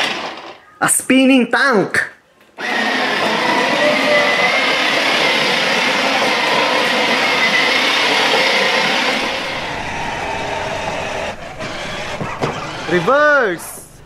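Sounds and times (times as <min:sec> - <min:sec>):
toy car wheels rolling on paving: 0:02.6 - 0:13.9
toy tank motors whining: 0:02.6 - 0:14.0.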